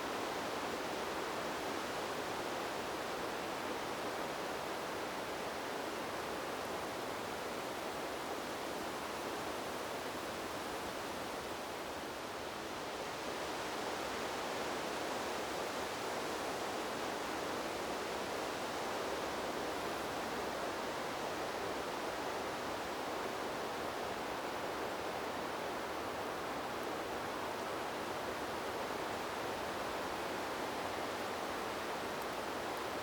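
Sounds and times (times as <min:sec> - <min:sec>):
wind blowing through trees: 0:00.0 - 0:33.0.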